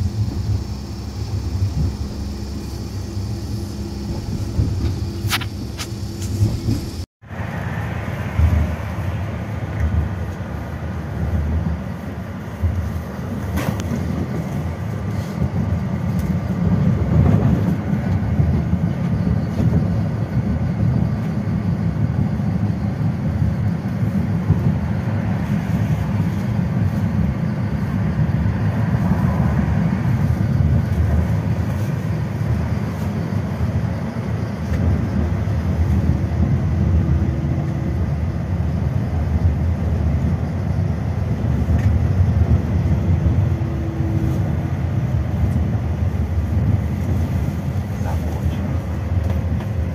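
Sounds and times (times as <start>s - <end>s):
tram wheels rumbling on rails: 0.0s - 49.9s.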